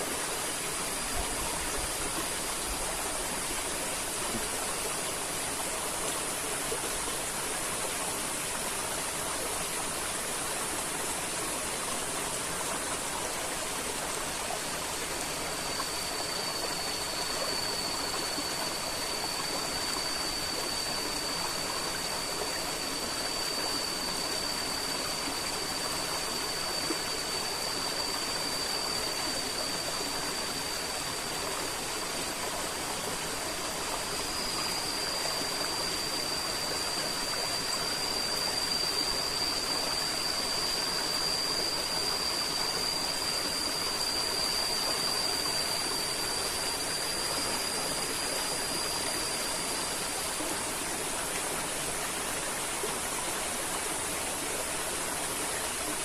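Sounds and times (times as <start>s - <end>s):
thin high tone: 0.0s - 56.0s.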